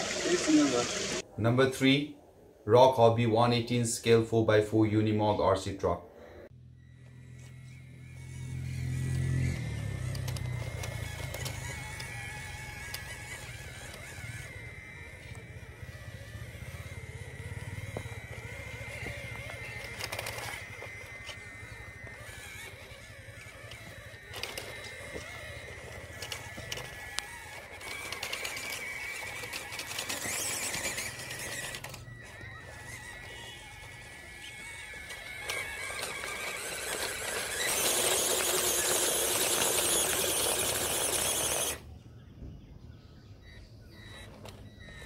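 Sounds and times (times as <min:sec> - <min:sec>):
electric motor whine: 0:00.0 - 0:01.2, 0:06.5 - 0:42.0, 0:43.4 - 0:45.0.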